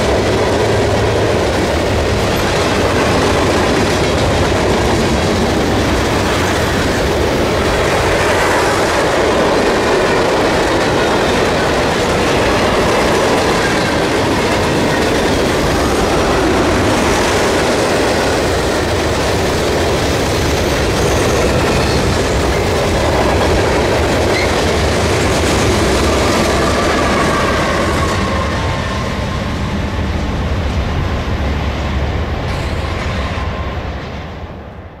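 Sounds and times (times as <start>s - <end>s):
train wheels clattering over rails: 0.0s - 34.3s.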